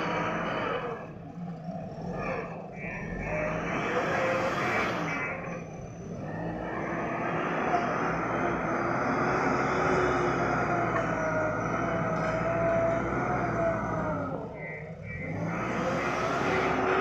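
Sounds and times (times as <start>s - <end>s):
diesel engine revving: 0.0s - 17.0s
reversing alarm beeping: 0.0s - 17.0s.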